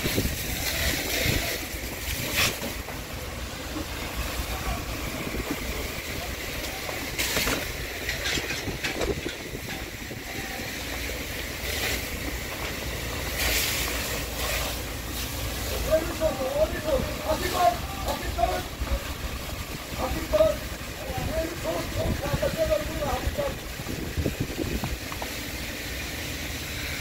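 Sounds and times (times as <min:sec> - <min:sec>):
burning wood crackling and popping: 0:00.0 - 0:27.0
low steady rumble: 0:00.0 - 0:27.0.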